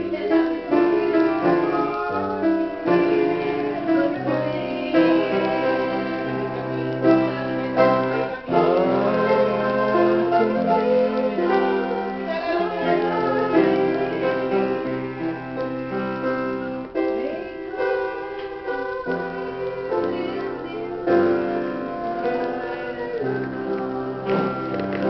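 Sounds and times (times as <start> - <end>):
woman singing: 0.0 - 16.0, 17.0 - 25.0
grand piano chords: 0.0 - 25.0.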